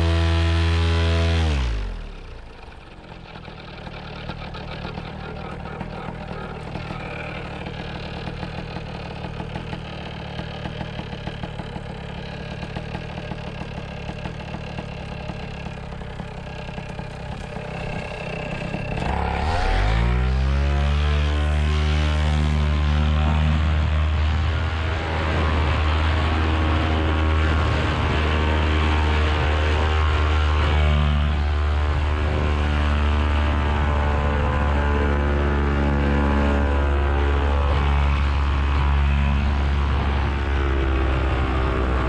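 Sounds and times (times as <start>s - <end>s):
paramotor engine revving and idling: 0.0s - 42.0s.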